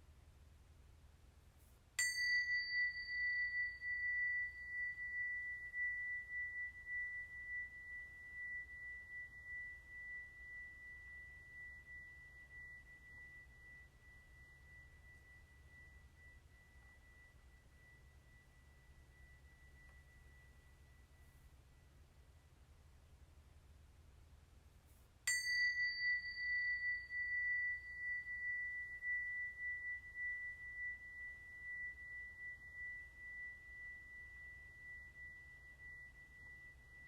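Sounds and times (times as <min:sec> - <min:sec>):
small metal chime ringing: 0:02.0 - 0:21.9, 0:25.3 - 0:37.0.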